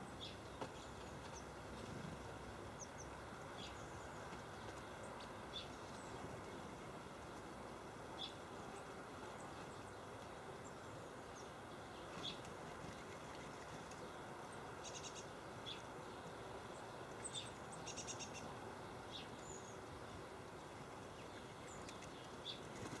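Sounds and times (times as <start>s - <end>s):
low background hiss: 0.0s - 23.0s.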